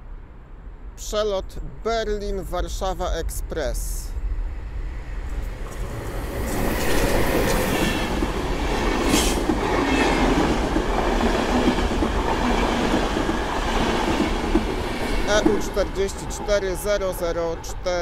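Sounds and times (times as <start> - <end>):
train wheels rumbling on rails: 2.4 - 18.0.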